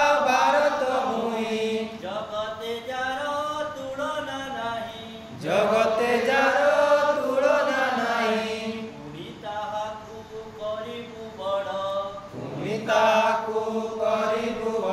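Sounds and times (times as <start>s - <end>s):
men singing in chanting style: 0.0s - 14.9s.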